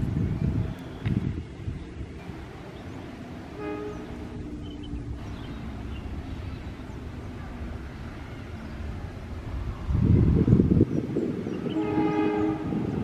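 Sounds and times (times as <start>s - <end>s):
distant diesel train rumble: 0.0s - 13.0s.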